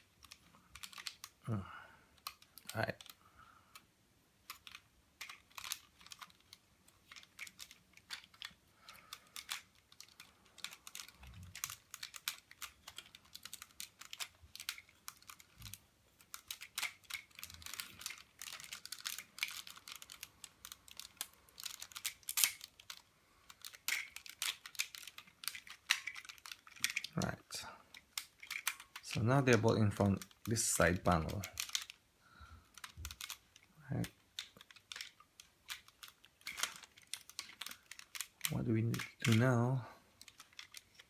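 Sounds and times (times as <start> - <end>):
plastic parts clicking and clacking: 0.0 - 41.0.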